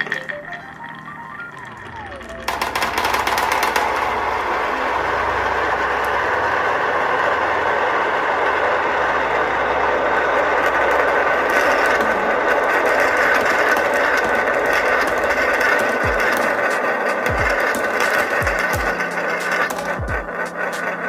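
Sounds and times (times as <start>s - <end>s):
marbles rattling down marble run: 0.0s - 21.0s.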